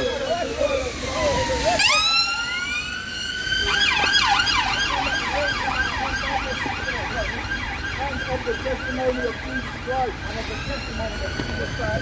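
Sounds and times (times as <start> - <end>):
emergency siren wailing and yelping: 0.0 - 12.0.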